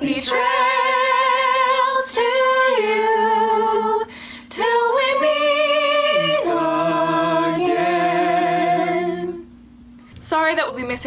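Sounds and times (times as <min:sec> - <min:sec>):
young voices singing in harmony: 0:00.0 - 0:09.5.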